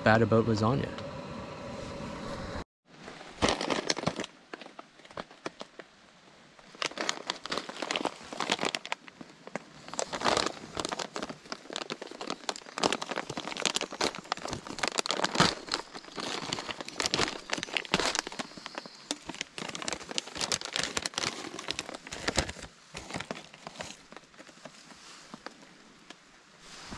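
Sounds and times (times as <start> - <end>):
foil pouch crinkling: 3.3 - 5.9, 6.6 - 25.6.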